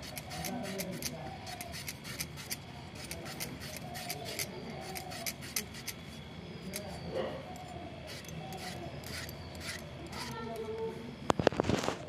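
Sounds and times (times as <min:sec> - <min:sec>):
knife cutting potatoes: 0:00.0 - 0:06.0, 0:06.6 - 0:10.7.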